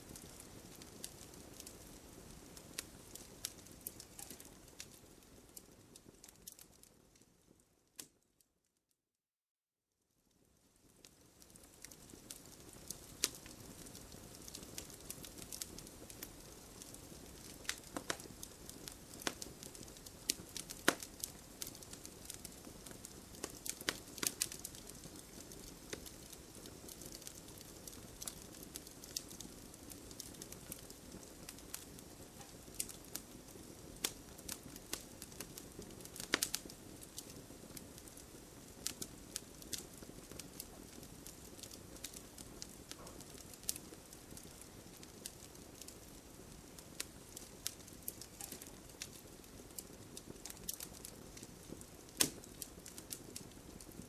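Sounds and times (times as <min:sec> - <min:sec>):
wood fire crackling: 0:00.0 - 0:08.4, 0:10.2 - 0:54.0.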